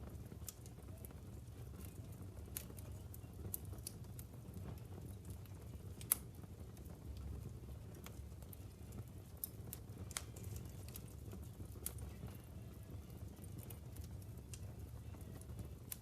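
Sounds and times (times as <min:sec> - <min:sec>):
logs crackling and popping: 0:00.0 - 0:16.0
wood fire burning: 0:00.0 - 0:16.0.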